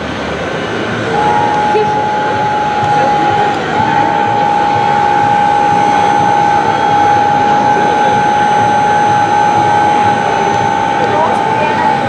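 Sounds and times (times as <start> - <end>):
small electric motor whining: 1.1 - 12.0.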